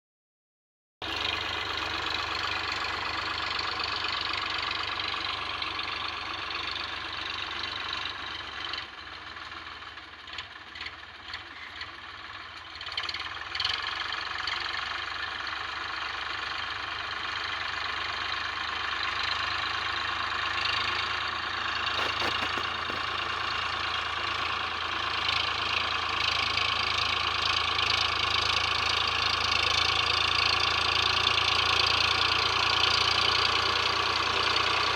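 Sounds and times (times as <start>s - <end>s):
tractor diesel engine running: 1.0s - 34.9s.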